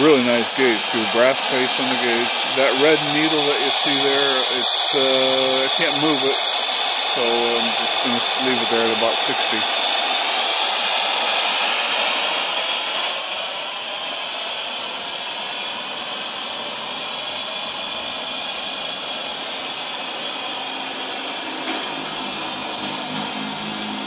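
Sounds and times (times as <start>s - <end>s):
safety valve hissing steam: 0.0s - 24.0s.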